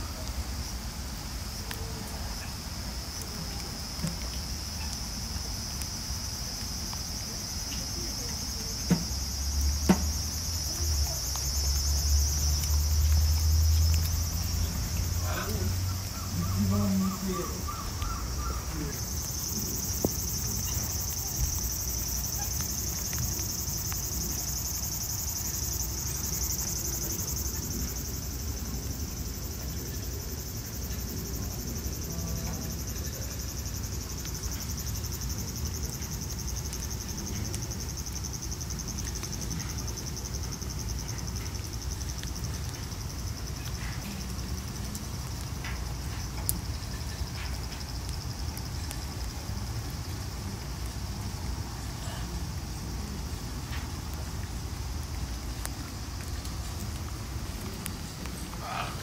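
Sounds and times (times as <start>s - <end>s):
cicadas chorus: 0.0s - 59.0s.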